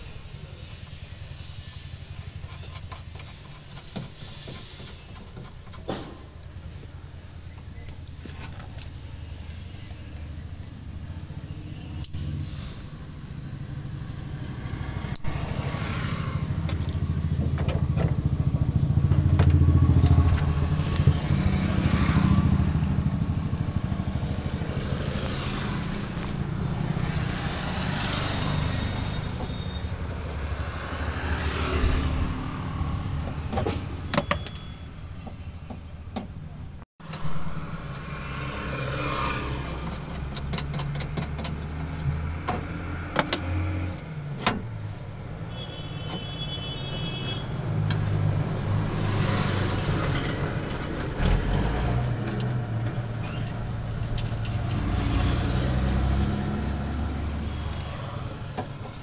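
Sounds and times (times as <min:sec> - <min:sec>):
vehicle engines passing: 0:06.4 - 0:45.6, 0:46.2 - 0:59.0.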